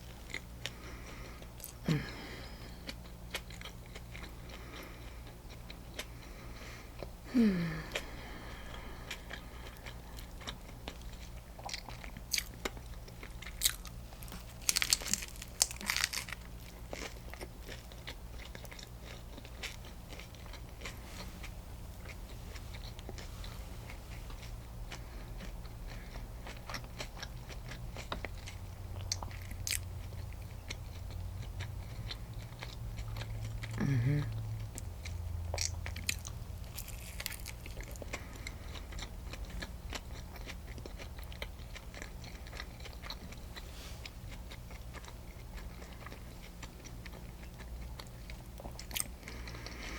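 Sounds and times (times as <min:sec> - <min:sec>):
low steady hum: 0:00.0 - 0:49.9
person chewing sandwich: 0:00.0 - 0:49.9.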